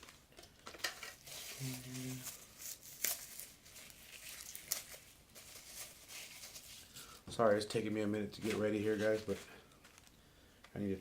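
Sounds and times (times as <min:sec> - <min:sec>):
paper packaging rustling and crinkling: 0:00.0 - 0:07.2, 0:08.3 - 0:10.2.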